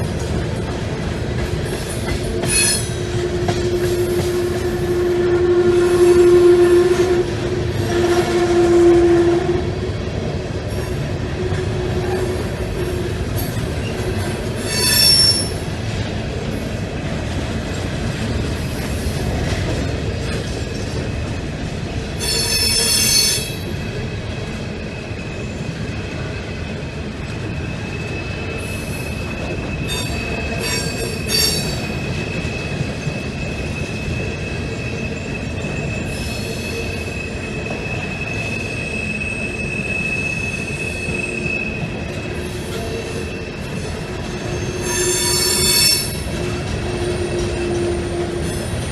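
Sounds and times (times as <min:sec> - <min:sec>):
freight train rumbling past: 0:00.0 - 0:48.9
wheels squealing on rails: 0:00.0 - 0:48.9.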